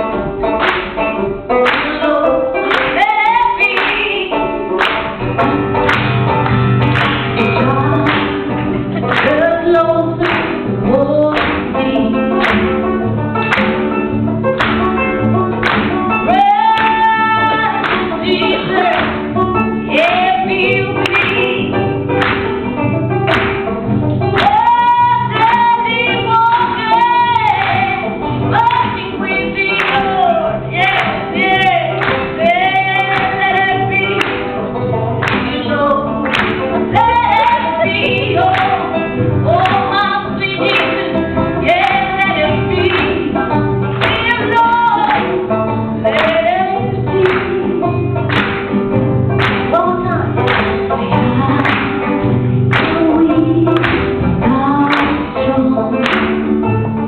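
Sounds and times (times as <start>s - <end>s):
steady rhythmic accompaniment: 0.0s - 57.0s.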